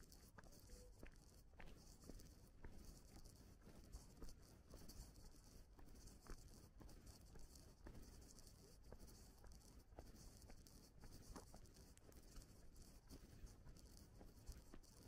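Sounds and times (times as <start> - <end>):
faint light ticks: 0.0 - 15.0.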